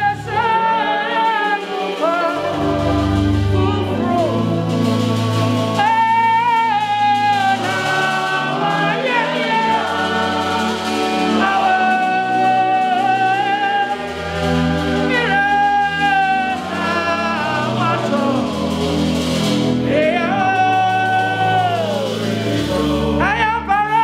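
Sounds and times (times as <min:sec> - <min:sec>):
instrumental accompaniment with bass: 0:00.0 - 0:24.0
person singing long held notes: 0:00.0 - 0:24.0.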